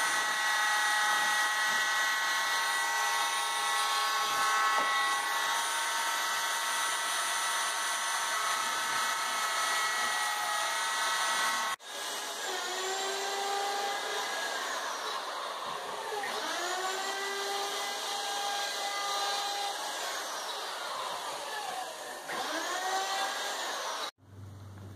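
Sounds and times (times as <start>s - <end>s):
router motor whine: 0.0s - 24.1s.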